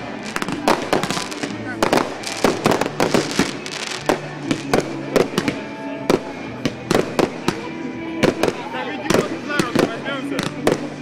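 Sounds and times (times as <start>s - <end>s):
fireworks bangs and cracks: 0.0s - 11.0s
romantic ballad playing: 0.0s - 11.0s.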